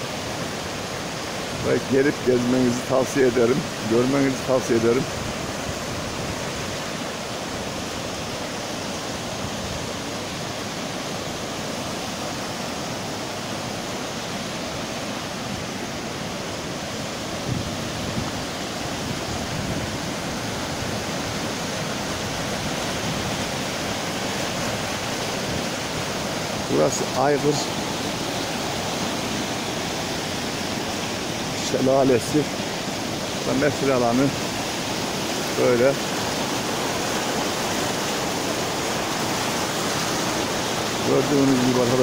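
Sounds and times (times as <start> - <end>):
river rushing over rocks: 0.0 - 42.0.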